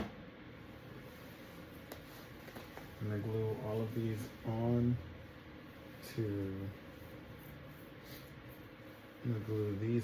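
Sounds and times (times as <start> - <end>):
faint room noise: 0.0 - 10.0.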